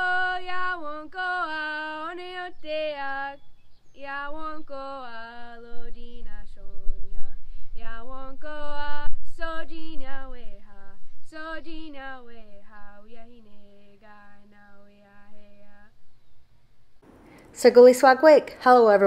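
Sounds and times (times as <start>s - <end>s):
woman singing unaccompanied: 0.0s - 16.1s.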